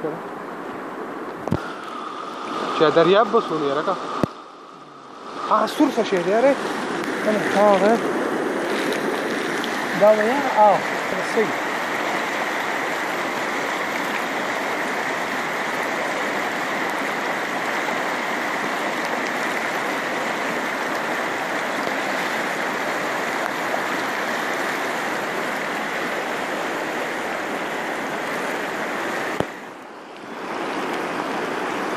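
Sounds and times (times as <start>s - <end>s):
river in flood rushing: 0.0s - 31.9s.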